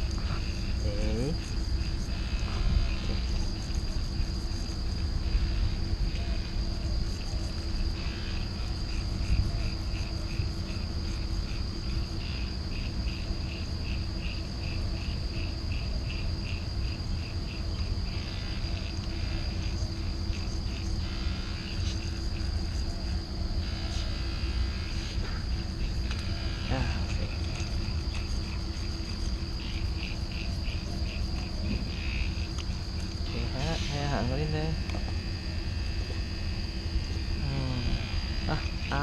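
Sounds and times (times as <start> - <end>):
insects chirping: 0.0 - 39.0
low background rumble: 0.0 - 39.0.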